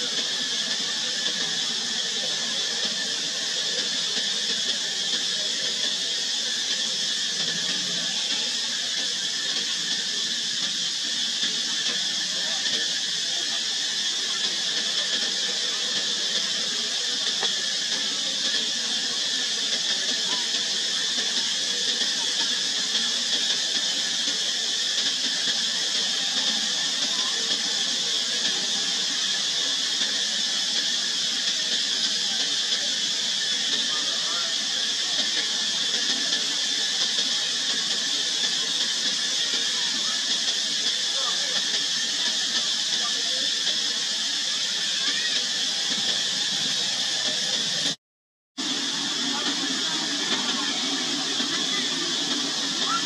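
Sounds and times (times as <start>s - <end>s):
cicada chorus: 0.0s - 47.9s.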